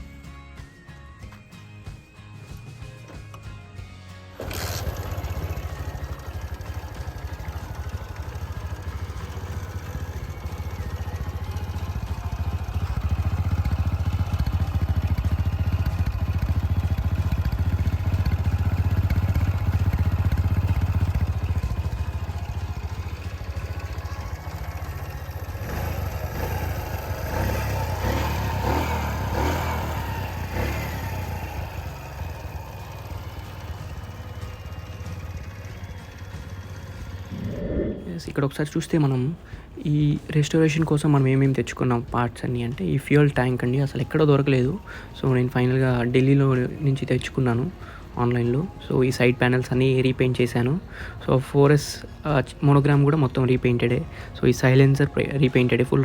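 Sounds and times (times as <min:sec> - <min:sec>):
motorcycle engine idling: 0:04.3 - 0:56.0.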